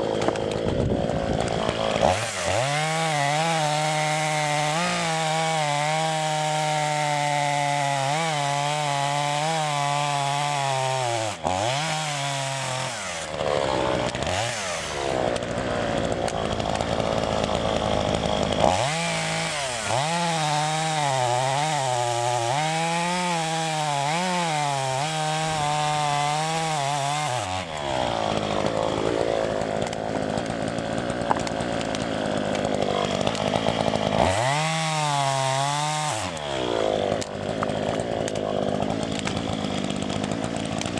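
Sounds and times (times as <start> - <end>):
chainsaw cutting log: 0.0 - 40.9
chainsaw running at high revs: 0.0 - 40.9.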